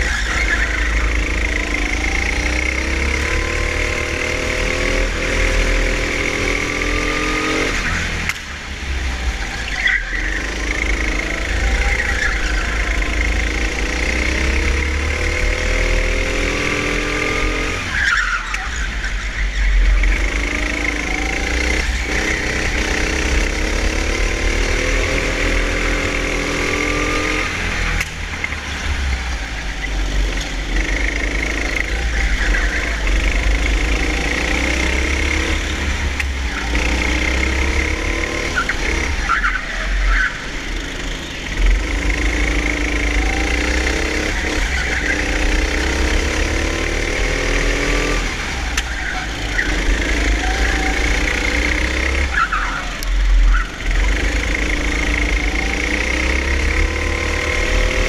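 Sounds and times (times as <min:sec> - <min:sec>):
go-kart engine accelerating: 0:00.0 - 0:58.0.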